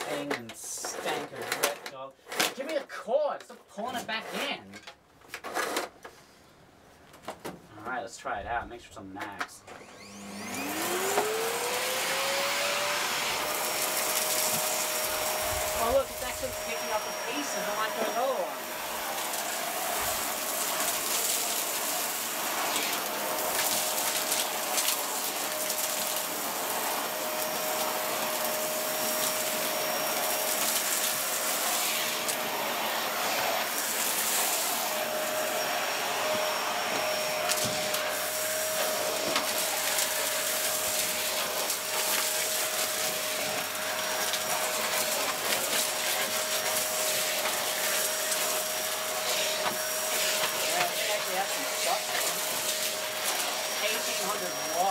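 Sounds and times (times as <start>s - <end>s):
vacuum cleaner motor whine: 9.7s - 54.9s.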